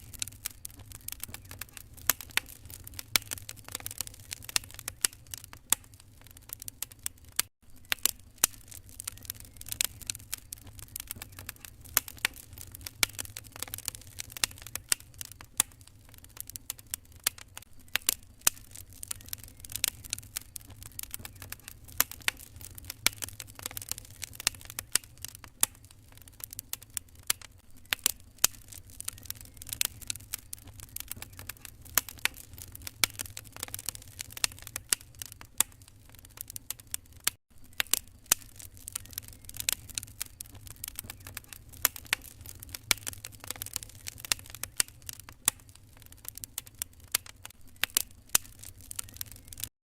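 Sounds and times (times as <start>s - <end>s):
wood fire crackling: 0.0s - 49.7s.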